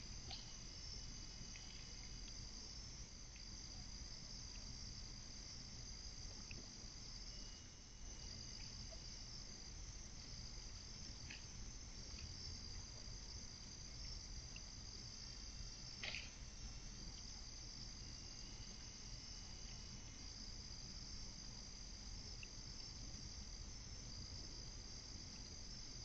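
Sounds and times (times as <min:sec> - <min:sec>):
night insects chirping: 0:00.0 - 0:26.0.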